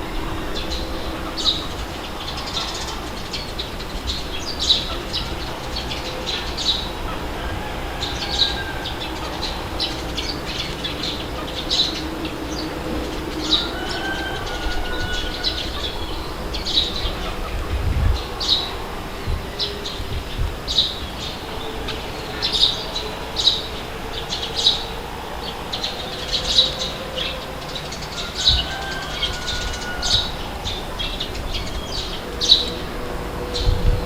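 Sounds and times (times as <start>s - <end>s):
birds chirping: 0.0s - 34.0s
outdoor background noise: 0.0s - 34.0s.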